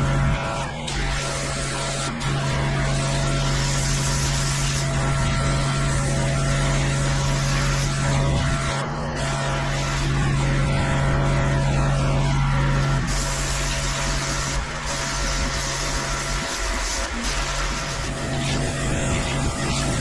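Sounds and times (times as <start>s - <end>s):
water jet hissing on concrete: 0.0s - 12.0s, 12.7s - 20.0s
pressure washer engine drone: 0.0s - 20.0s.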